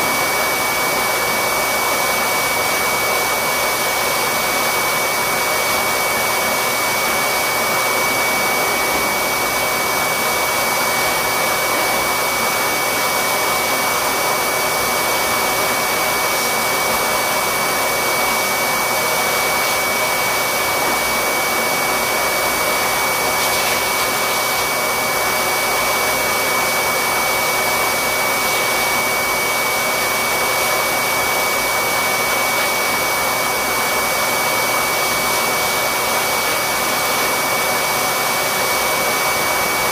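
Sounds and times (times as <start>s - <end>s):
blower dryer whine and air rush: 0.0s - 39.9s.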